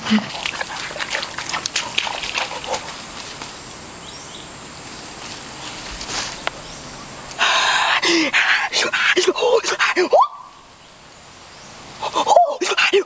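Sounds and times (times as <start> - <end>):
high-pitched insect drone: 0.3 - 13.0.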